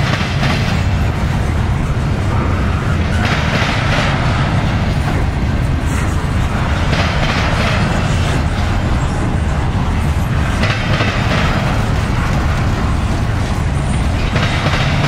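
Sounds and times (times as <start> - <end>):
freight train rumbling past: 0.0 - 15.0
train wheel clatter: 0.0 - 15.0.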